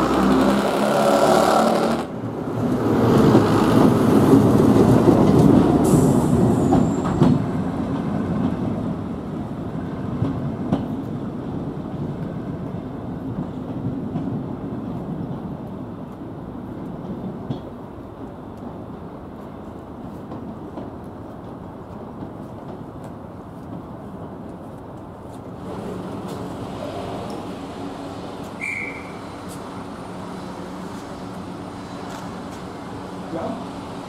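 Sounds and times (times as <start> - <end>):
diesel train rumbling past: 0.0 - 34.0.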